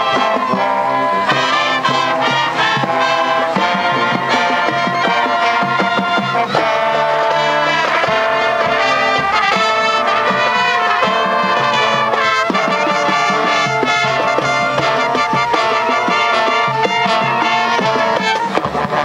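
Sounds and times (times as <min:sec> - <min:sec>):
marching band brass tune: 0:00.0 - 0:19.0.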